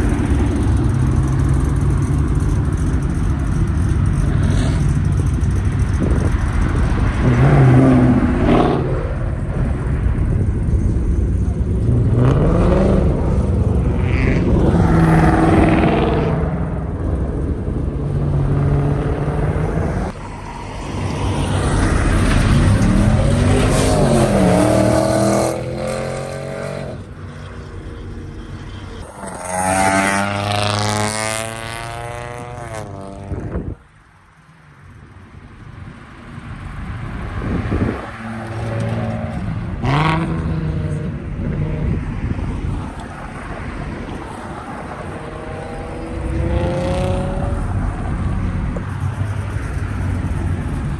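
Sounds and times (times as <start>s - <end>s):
car engines accelerating hard: 0.0s - 50.9s.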